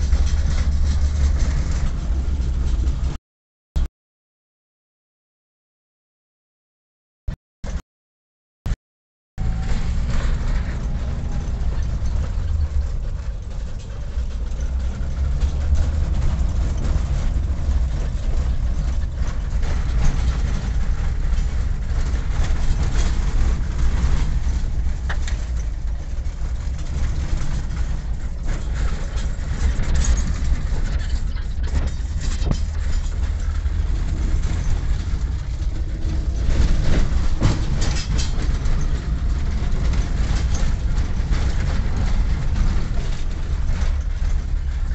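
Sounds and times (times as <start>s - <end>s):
rattles and knocks: 0.0s - 3.2s, 9.4s - 44.9s
vehicle rumbling on the move: 0.0s - 3.2s, 9.4s - 44.9s.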